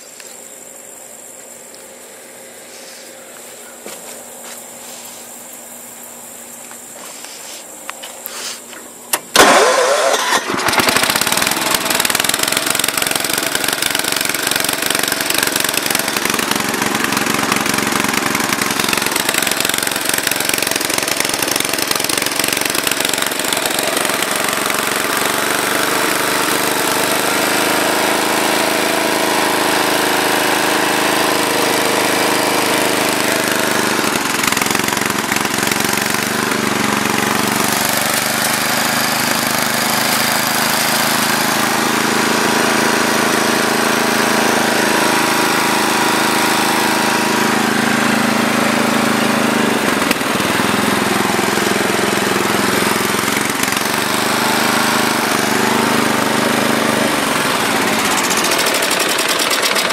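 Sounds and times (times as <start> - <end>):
mower engine starting and running: 0.0 - 59.9.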